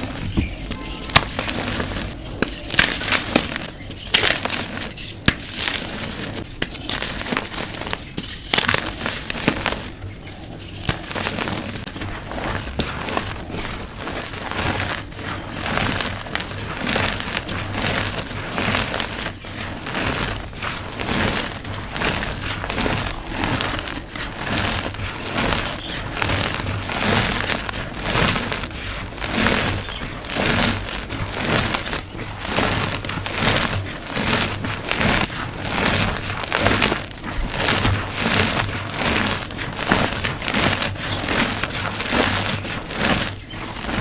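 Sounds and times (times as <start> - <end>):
chalk blocks crunching: 0.0 - 44.0.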